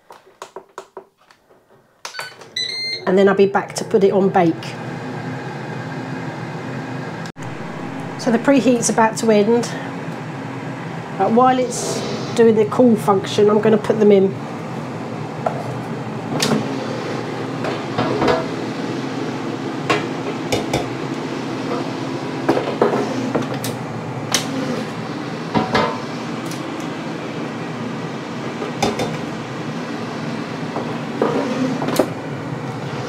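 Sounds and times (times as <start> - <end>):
air fryer fan running: 2.4 - 33.0.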